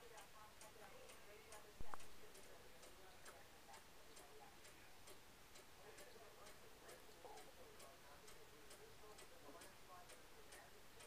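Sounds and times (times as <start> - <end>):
faint even ticking: 0.0 - 11.0.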